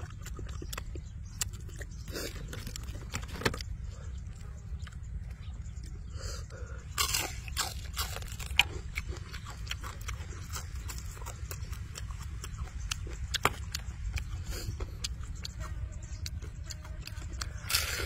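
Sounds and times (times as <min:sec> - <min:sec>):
steady low rumble: 0:00.0 - 0:17.9
crunching and chewing fried chicken: 0:00.0 - 0:18.0.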